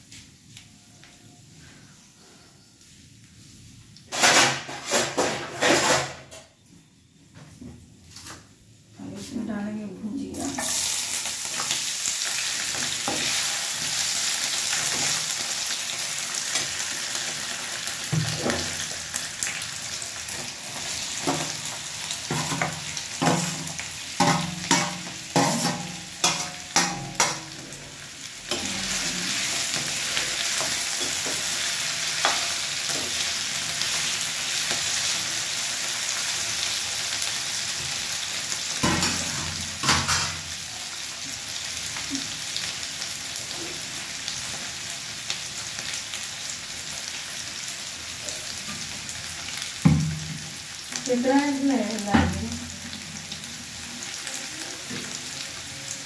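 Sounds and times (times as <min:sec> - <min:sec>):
potatoes sizzling in hot oil: 0:10.2 - 0:56.0.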